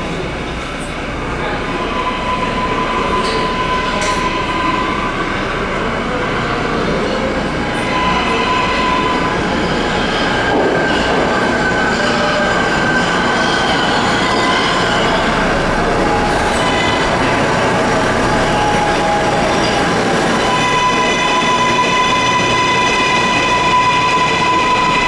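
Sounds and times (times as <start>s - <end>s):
subway train wheels on rails: 0.0s - 25.0s.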